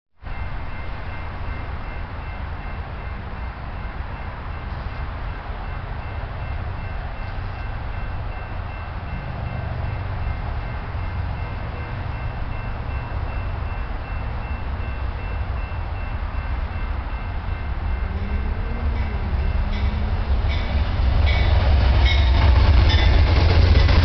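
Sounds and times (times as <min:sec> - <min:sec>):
diesel locomotive rumble: 0:00.2 - 0:24.0.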